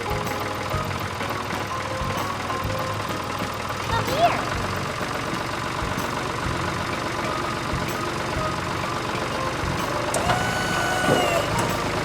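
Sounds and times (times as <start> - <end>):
cartoon engine low rumble: 0.0 - 12.0.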